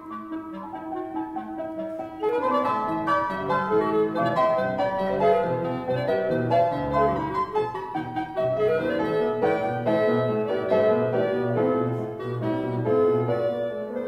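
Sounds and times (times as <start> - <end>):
clarinet melody: 0.0 - 14.0
piano accompaniment: 0.0 - 14.0.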